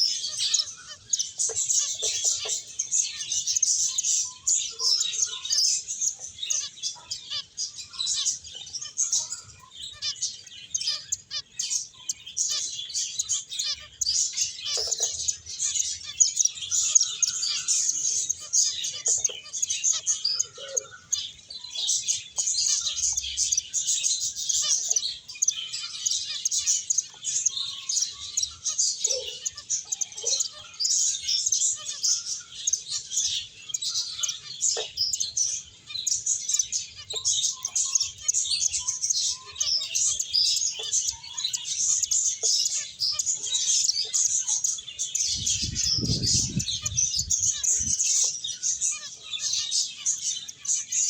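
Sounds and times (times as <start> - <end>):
finches chirping: 0.0 - 51.0.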